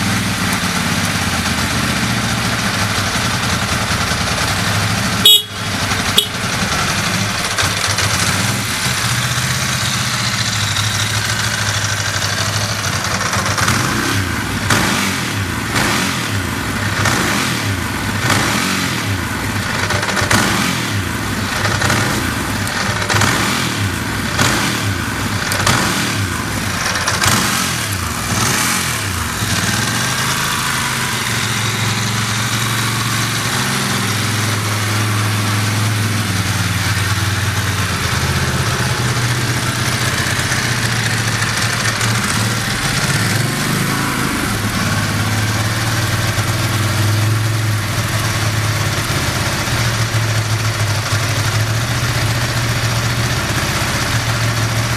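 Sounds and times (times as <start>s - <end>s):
motorcycle engine idling: 0.0s - 54.9s
motorcycle engine revving: 0.0s - 54.9s.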